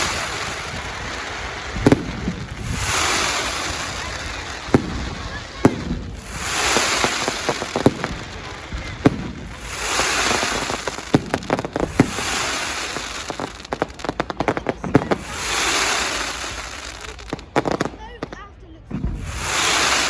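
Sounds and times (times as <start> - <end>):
firework bangs and cracks: 0.0 - 20.0
hissing firework crackle: 0.0 - 20.0.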